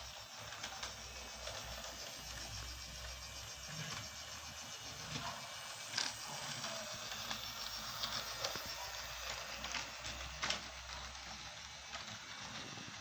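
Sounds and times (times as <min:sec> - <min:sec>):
freight train rolling on rails: 0:00.0 - 0:13.0.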